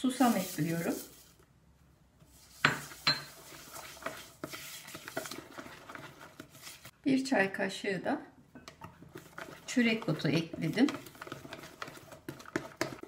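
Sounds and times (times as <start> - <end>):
wooden spoon stirring batter: 0.0 - 7.0, 8.4 - 13.0.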